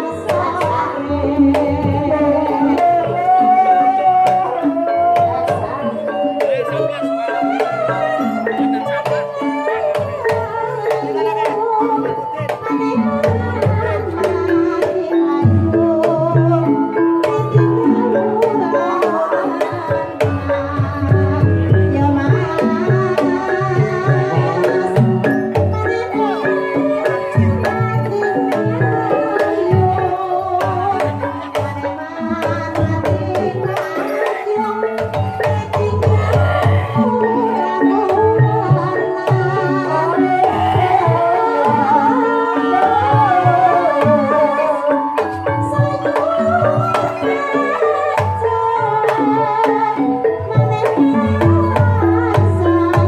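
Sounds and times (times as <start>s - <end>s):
wavering melody on pitched instruments: 0.0s - 53.0s.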